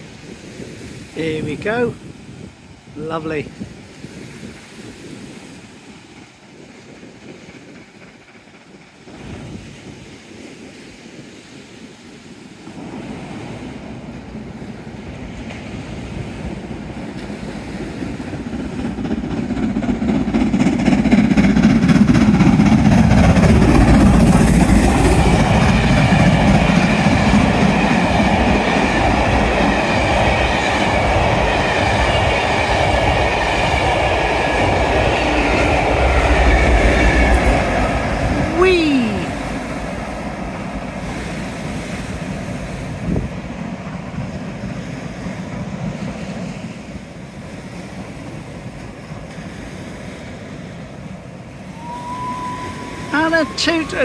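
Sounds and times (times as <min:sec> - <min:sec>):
steam train passing: 0:00.0 - 0:54.0.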